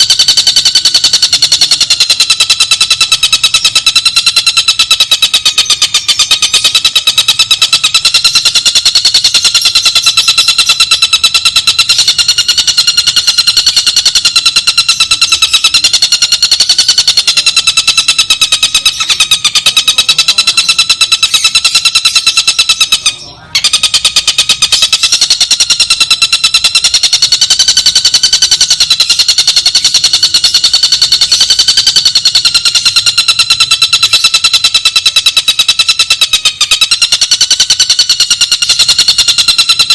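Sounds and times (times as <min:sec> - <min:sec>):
kingfisher rattling trill: 0:00.0 - 0:39.9.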